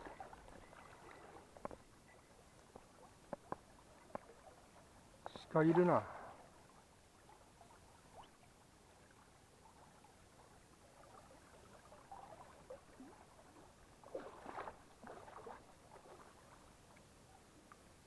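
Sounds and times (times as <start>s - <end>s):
soft water splashes: 0.0s - 18.0s
trickling stream water: 0.0s - 18.0s.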